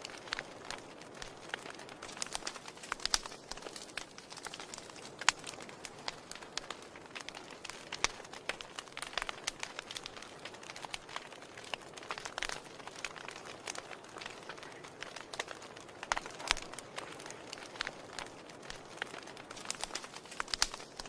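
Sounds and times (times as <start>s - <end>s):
soft fire hiss: 0.0s - 21.0s
wood fire crackling: 0.0s - 21.0s.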